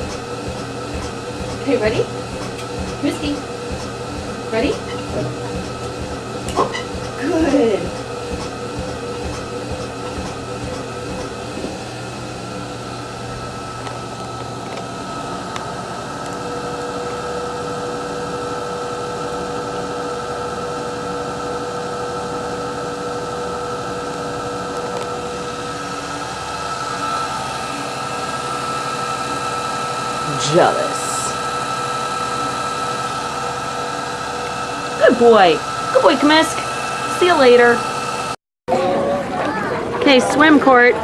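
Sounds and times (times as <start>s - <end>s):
machine humming with whining tones: 0.0s - 41.0s.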